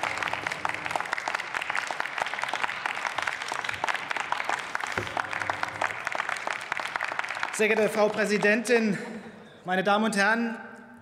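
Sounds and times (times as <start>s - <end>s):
applause: 0.0s - 9.2s.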